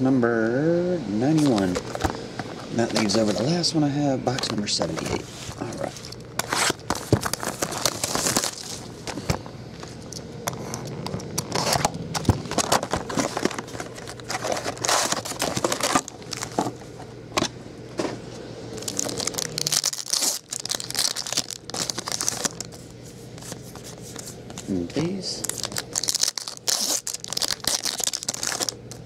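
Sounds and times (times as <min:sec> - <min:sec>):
card packaging crinkling and tearing: 0:01.3 - 0:29.0.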